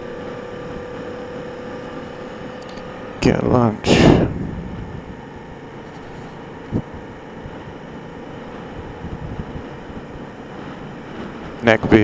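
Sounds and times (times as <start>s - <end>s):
motorcycle engine hum: 0.0s - 12.0s
wind rushing over microphone: 0.0s - 12.0s.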